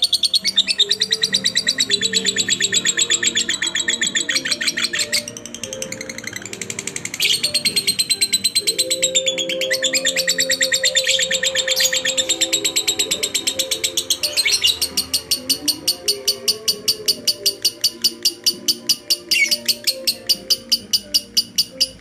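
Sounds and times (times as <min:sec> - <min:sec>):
background music: 0:00.0 - 0:22.0
lovebird chattering trill: 0:00.0 - 0:22.0.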